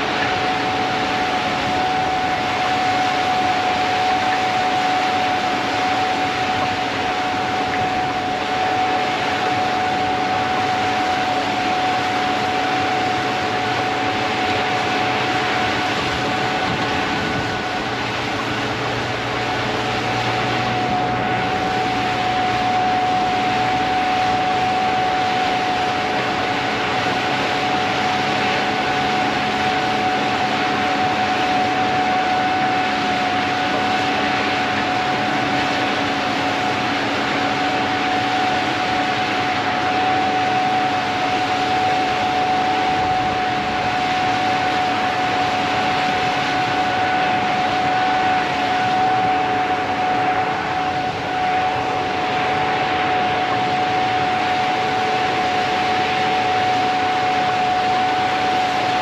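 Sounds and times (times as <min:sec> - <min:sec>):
combine harvester drone: 0:00.0 - 0:59.0
constant high whine: 0:00.0 - 0:59.0.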